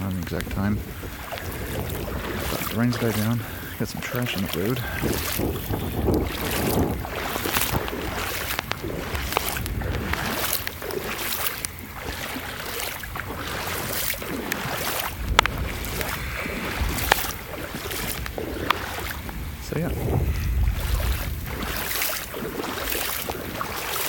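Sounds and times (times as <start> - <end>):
wading through water: 0.0 - 24.0
wind buffeting microphone: 0.0 - 24.0.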